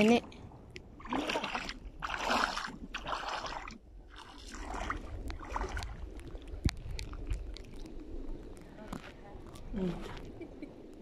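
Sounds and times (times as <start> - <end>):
steady low rumble: 0.0 - 11.0
small clicks and splashes: 0.7 - 11.0
footsteps sloshing through water: 0.8 - 10.4.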